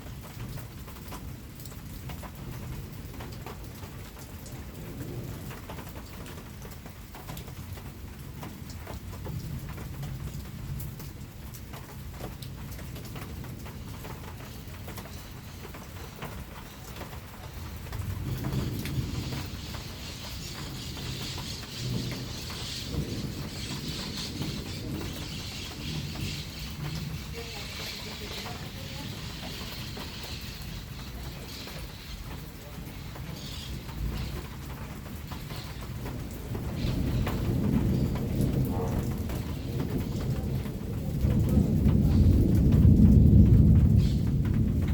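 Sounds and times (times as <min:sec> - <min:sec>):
steady rain: 0:00.0 - 0:44.9
thunder rumbling: 0:02.4 - 0:06.7, 0:12.0 - 0:44.9.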